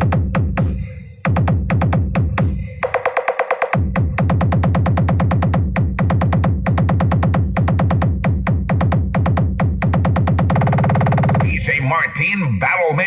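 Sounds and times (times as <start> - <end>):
electronic dance music: 0.0 - 13.0.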